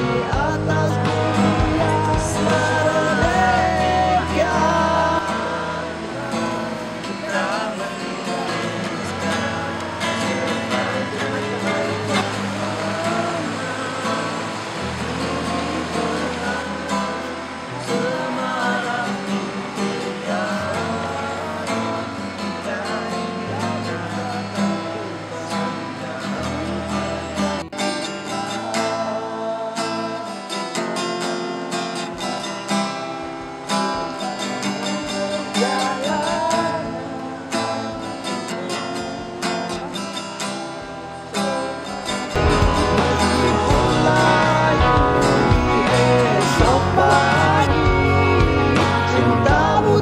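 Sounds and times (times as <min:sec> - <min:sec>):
acoustic guitar music: 0:00.0 - 0:50.0.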